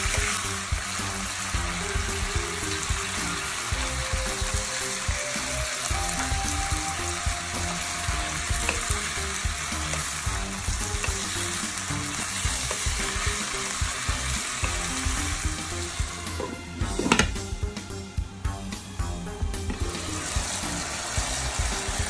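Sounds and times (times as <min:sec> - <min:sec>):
food sizzling in a wok: 0:00.0 - 0:18.0, 0:18.6 - 0:22.0
background music: 0:00.0 - 0:22.0.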